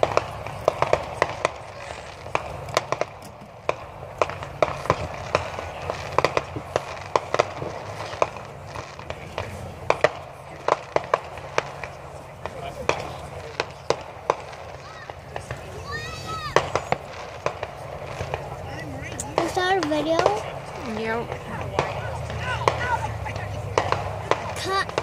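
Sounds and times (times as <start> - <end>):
fireworks popping and crackling: 0.0 - 25.0.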